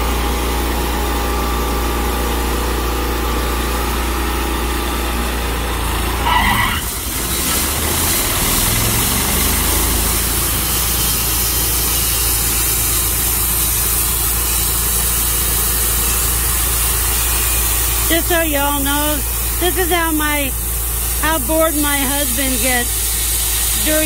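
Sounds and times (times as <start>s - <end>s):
sawmill running: 0.0s - 24.0s.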